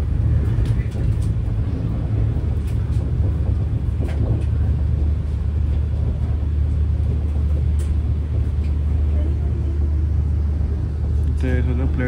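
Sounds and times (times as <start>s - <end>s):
train coach rumble and hum: 0.0s - 12.0s.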